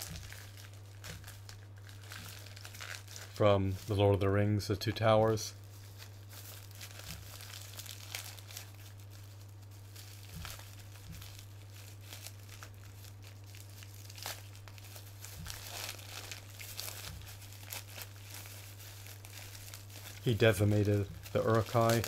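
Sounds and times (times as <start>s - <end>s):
wrapping material crinkling: 0.0s - 22.0s.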